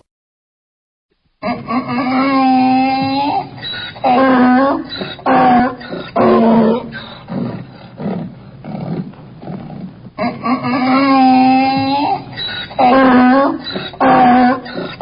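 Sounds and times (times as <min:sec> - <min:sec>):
donkey braying: 0:01.4 - 0:15.0.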